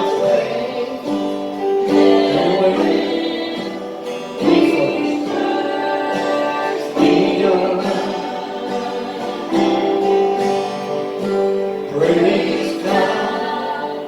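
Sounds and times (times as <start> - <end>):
group singing slow chorus: 0.0 - 14.0
guitar accompaniment: 0.0 - 14.0.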